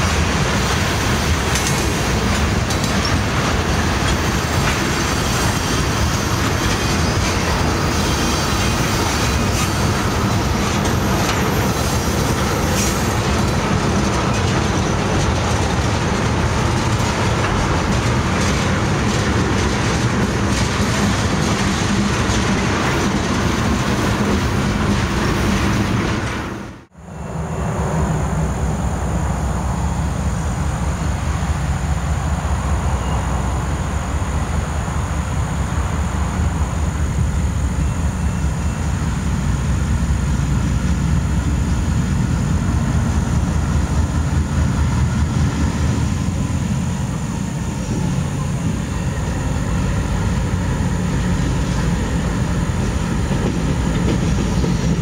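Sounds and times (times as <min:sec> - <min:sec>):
diesel locomotives rumbling: 0:00.0 - 0:55.0
freight cars rolling on rails: 0:00.0 - 0:55.0.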